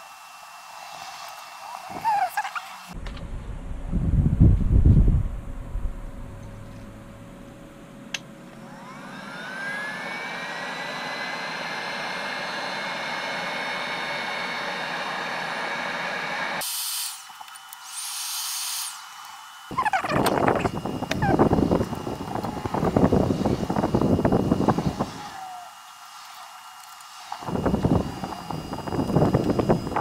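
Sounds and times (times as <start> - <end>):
heat gun fan whine: 0.0 - 30.0.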